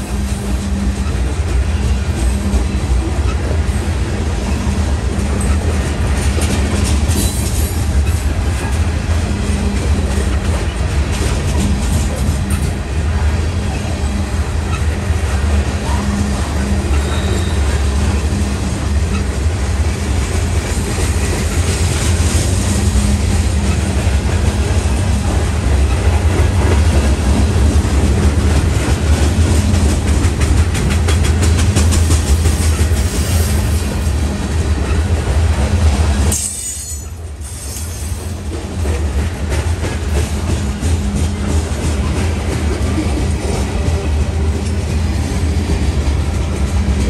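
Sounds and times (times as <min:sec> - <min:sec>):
freight train rumbling past: 0:00.0 - 0:47.0
wheels clicking over rail joints: 0:05.1 - 0:13.8, 0:14.5 - 0:47.0.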